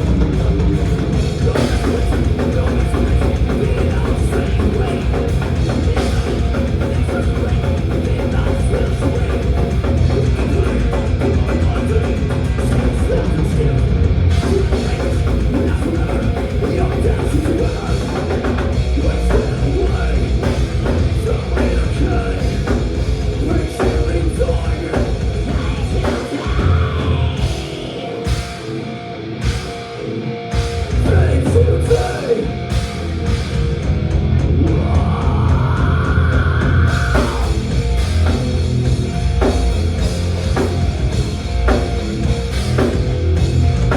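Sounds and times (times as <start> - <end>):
thrash metal band playing live: 0.0 - 43.9.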